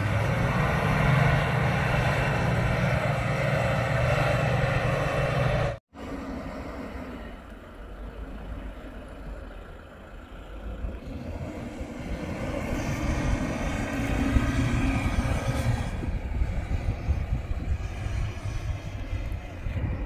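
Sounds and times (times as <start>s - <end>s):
car engine working hard: 0.0s - 20.0s.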